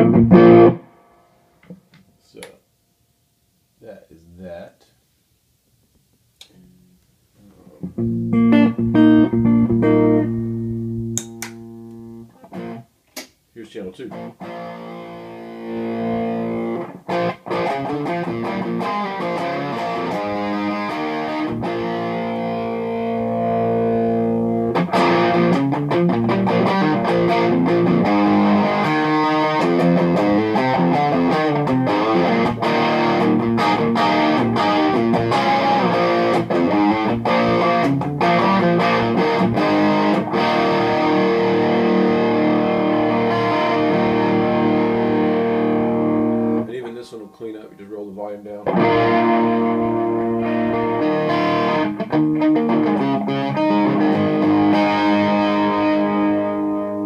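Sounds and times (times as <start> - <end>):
distorted electric guitar: 0.0 - 1.8, 6.4 - 12.9, 14.1 - 46.7, 48.5 - 57.0.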